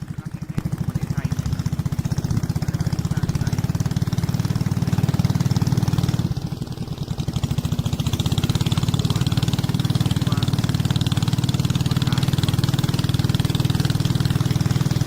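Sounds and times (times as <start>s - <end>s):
small boat engine running: 0.0s - 15.0s.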